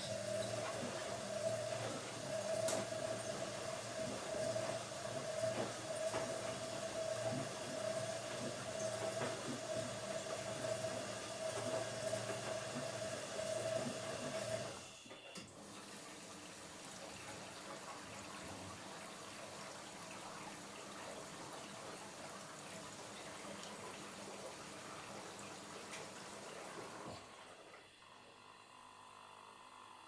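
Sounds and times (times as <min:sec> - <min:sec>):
washing machine motor hum: 0:00.0 - 0:30.0.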